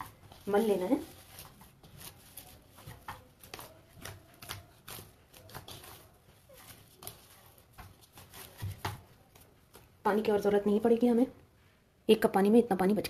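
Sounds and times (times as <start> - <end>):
hands kneading dough: 0.0 - 11.3.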